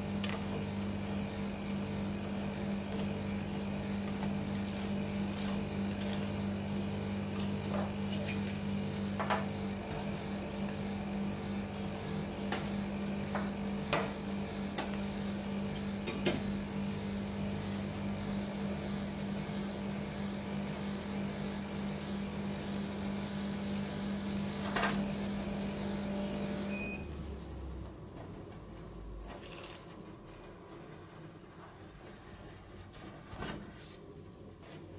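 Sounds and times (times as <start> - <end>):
refrigeration compressor hum: 0.0 - 34.9.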